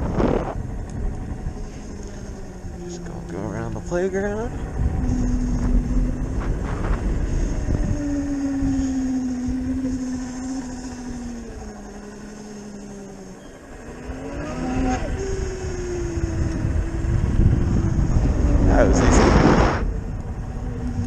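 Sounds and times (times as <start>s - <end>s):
electric motorcycle motor whine: 0.0s - 21.0s
wind and road noise: 0.0s - 21.0s.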